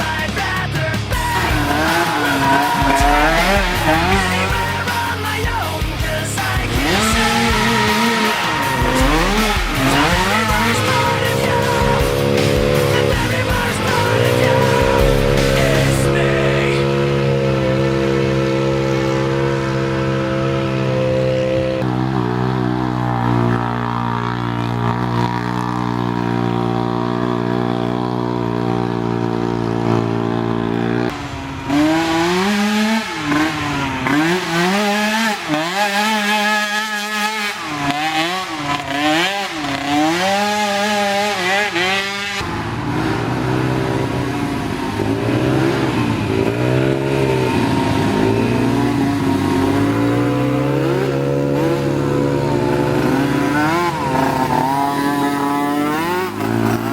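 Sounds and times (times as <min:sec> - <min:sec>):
small atv engines revving: 0:00.0 - 0:56.9.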